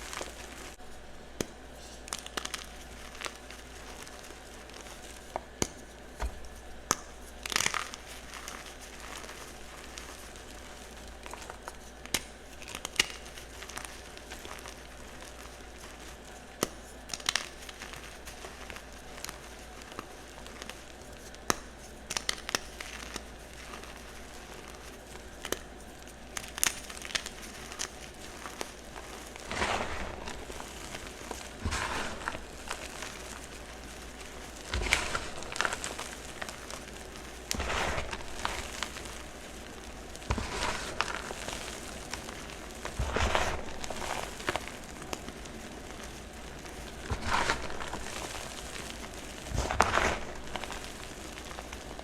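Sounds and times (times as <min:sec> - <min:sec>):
chalk blocks crunching: 0:01.8 - 0:52.0.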